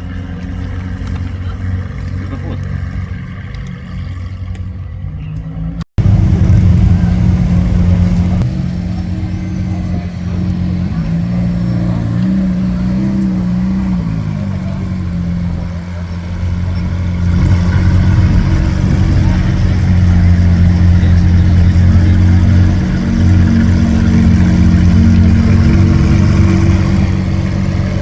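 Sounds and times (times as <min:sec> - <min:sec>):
car engine running loud: 0:00.0 - 0:28.0.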